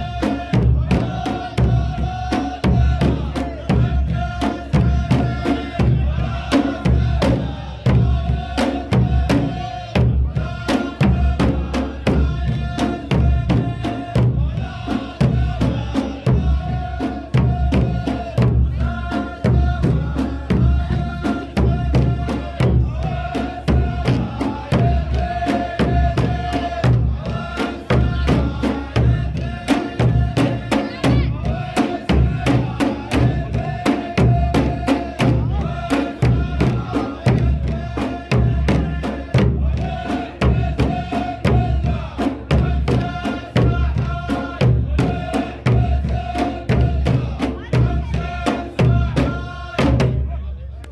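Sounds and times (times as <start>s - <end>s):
drums beating fast rhythm: 0.0s - 50.4s
men chanting in unison: 0.0s - 50.8s.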